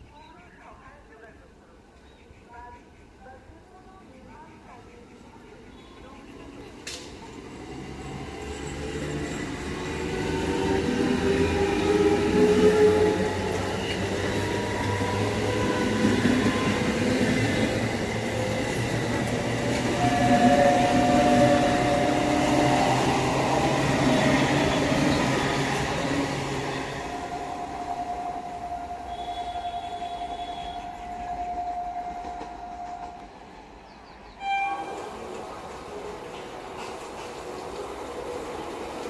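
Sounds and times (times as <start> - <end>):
train wheels rumbling: 5.0 - 39.0.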